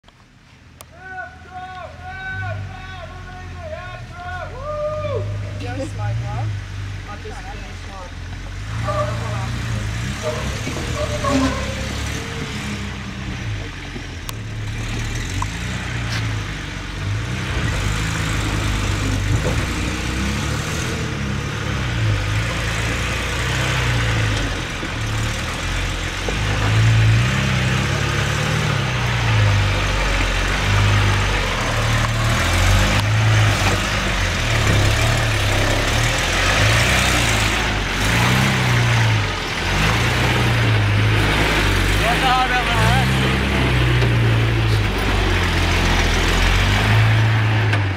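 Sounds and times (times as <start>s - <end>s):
off-road vehicle engine revving: 2.0s - 47.9s.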